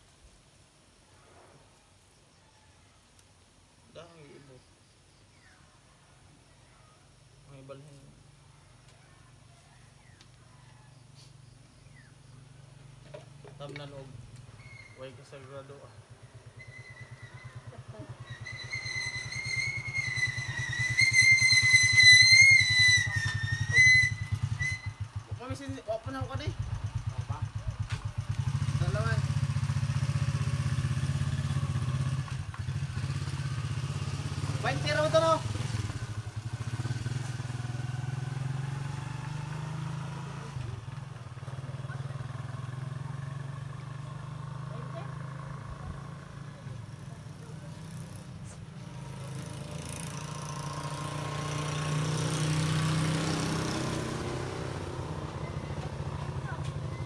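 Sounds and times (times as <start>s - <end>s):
motorcycle engine approaching: 7.4s - 57.0s.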